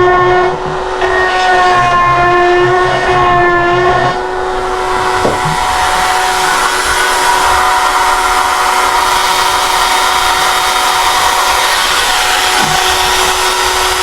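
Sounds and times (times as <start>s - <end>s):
power sanding tool grinding metal: 1.1s - 14.0s.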